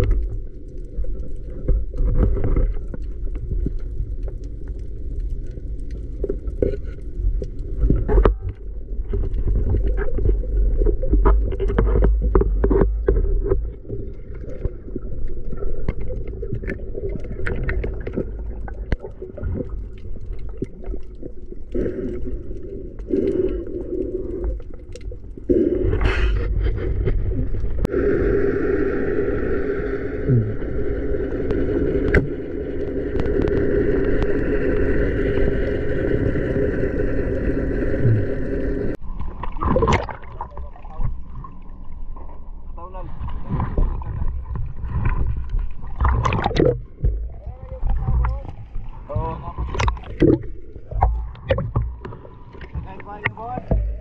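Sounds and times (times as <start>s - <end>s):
low underwater noise: 0.0s - 54.0s.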